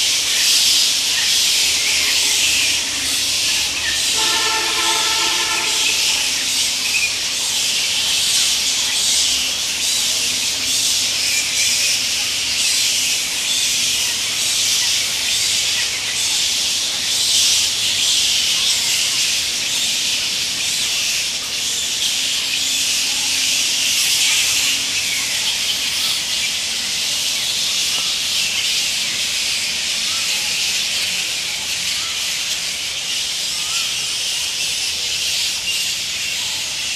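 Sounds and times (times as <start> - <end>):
bats squeaking and screeching: 0.0 - 36.9.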